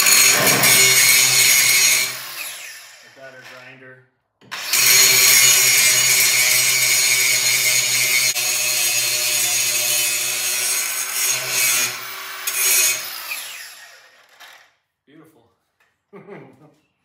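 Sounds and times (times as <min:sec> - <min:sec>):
angle grinder grinding metal: 0:00.0 - 0:03.6, 0:04.4 - 0:14.7.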